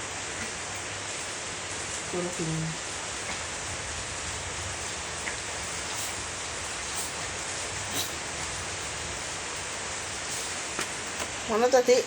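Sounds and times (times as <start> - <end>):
heavy rain falling: 0.0 - 11.8.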